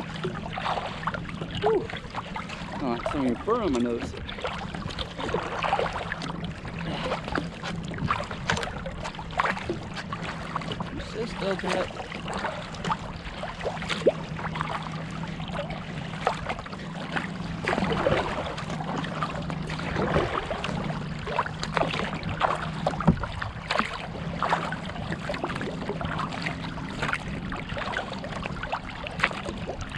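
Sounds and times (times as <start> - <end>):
paddle splashing: 0.0 - 29.9
water lapping along hull: 0.0 - 29.9.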